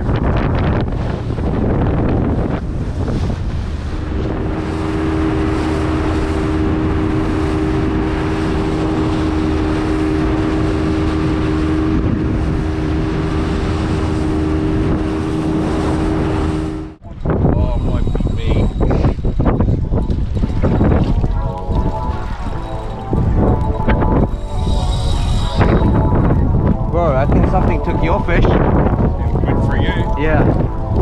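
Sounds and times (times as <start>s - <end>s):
water noise: 0.0s - 31.0s
wind on microphone: 0.0s - 31.0s
outboard motor running: 0.3s - 17.8s, 18.7s - 31.0s.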